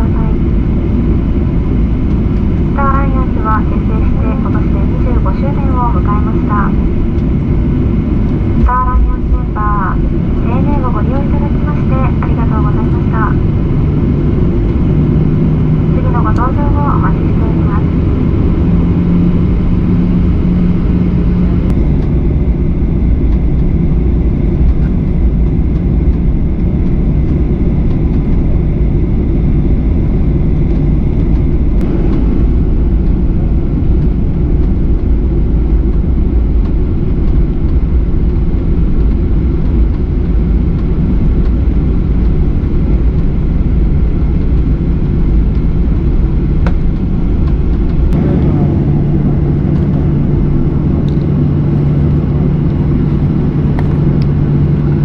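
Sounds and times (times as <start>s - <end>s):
airliner cabin engine rumble: 0.0s - 55.0s
steady hum: 0.0s - 55.0s.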